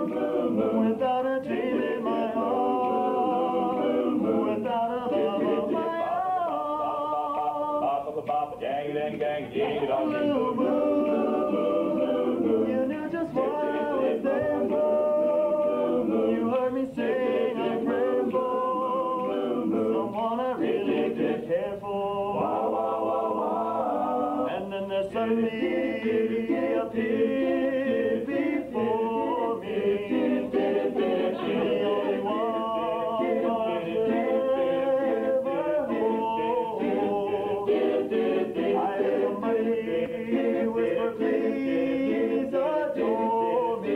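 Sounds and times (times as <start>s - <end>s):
vocal group singing a cappella: 0.0s - 43.9s.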